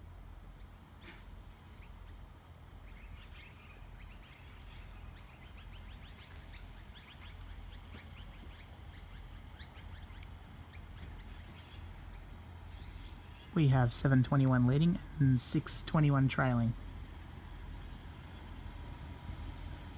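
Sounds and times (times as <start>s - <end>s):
birds chirping: 0.0s - 19.0s
faint low rumble: 0.0s - 19.9s.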